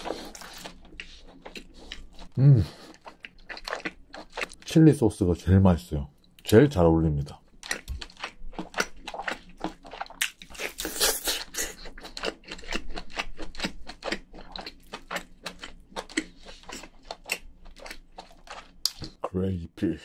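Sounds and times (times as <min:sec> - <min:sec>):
person chewing with wet smacking: 0:00.0 - 0:04.7, 0:07.4 - 0:19.2.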